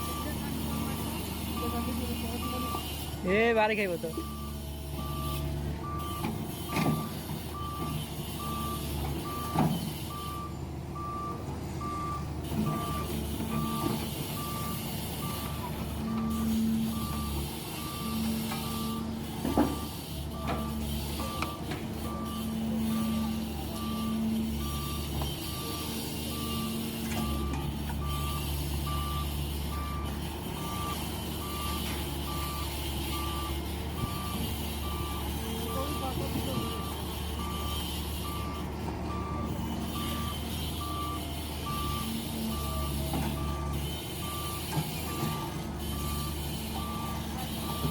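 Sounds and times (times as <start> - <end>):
diesel engine running: 0.0 - 47.9
reversing alarm beeping: 0.0 - 47.9.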